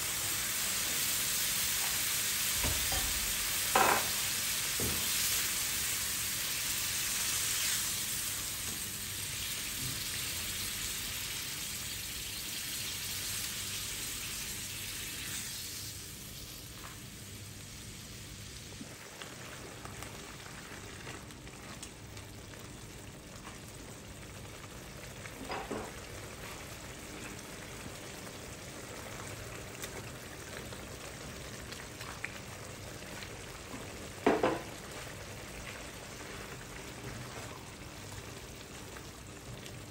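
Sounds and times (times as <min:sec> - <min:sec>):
sauce sizzling in frying pan: 0:00.0 - 0:39.9.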